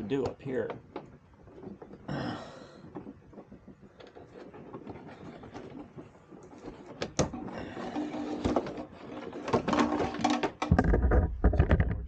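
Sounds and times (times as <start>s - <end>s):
scraping and rustling: 0.0s - 2.1s, 2.7s - 12.0s.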